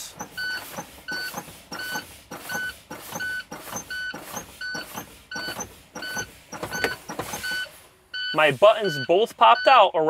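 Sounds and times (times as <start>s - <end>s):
air hissing: 0.0s - 9.0s
warning buzzer beeping: 0.0s - 9.8s.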